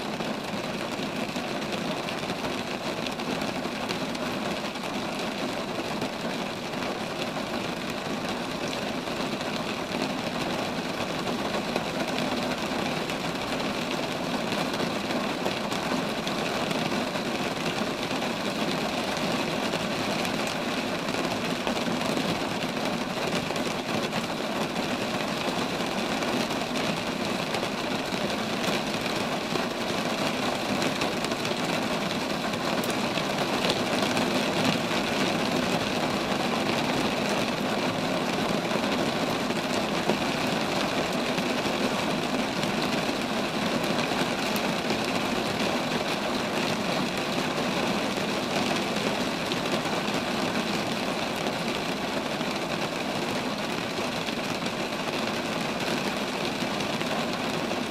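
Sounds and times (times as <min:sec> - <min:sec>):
rain falling on trees: 0:00.0 - 0:57.9.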